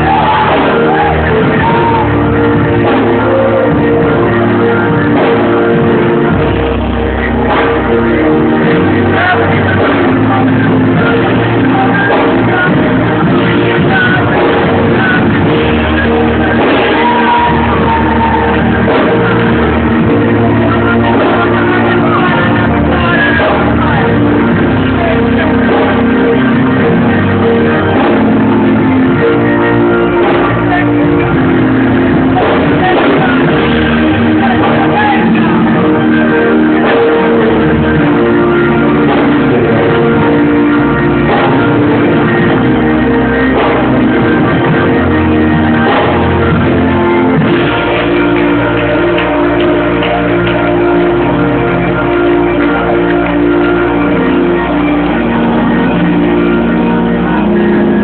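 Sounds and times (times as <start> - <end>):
live gospel band music: 0.0 - 58.0.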